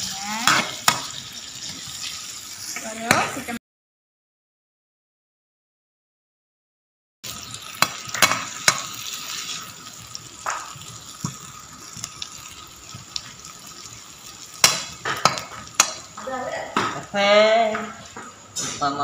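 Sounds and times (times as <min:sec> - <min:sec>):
food sizzling in oil: 0:00.0 - 0:03.6, 0:07.2 - 0:19.0.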